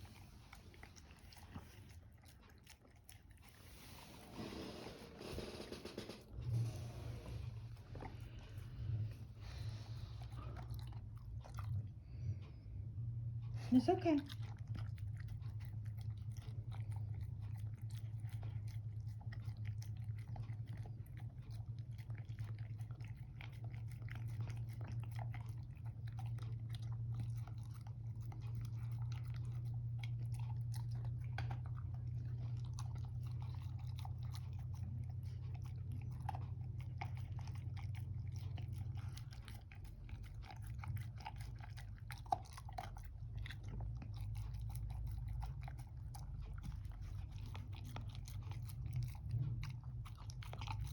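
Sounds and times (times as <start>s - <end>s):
dog chewing crunchy food: 0.0s - 12.6s, 14.3s - 50.9s
low background hum: 0.0s - 50.9s.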